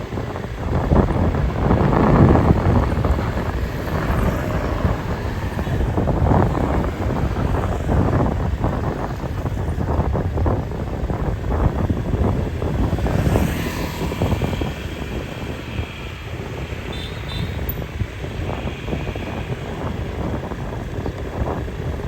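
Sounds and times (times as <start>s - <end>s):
vehicle engine running nearby: 0.0s - 22.0s.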